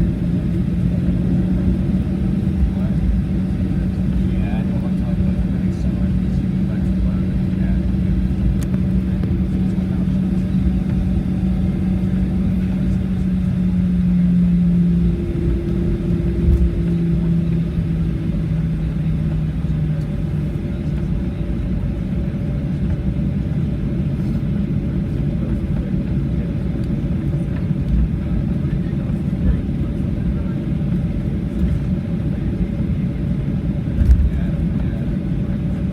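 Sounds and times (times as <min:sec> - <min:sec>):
aircraft cabin hum: 0:00.0 - 0:35.9
aircraft cabin rumble: 0:00.0 - 0:35.9.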